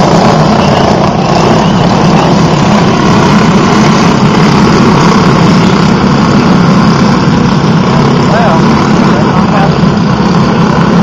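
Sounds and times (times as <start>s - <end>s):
go-kart engines droning: 0.0s - 11.0s.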